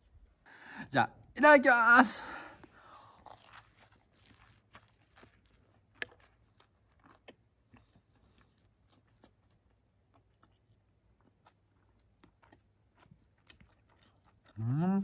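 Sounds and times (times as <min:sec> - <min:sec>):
person chewing food: 0:02.6 - 0:15.0.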